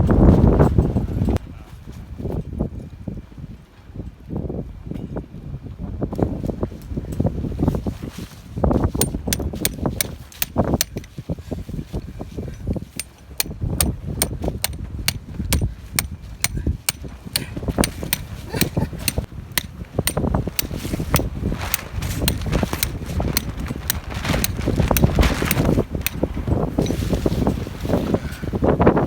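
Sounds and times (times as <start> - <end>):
gusty wind on microphone: 0.0 - 29.0.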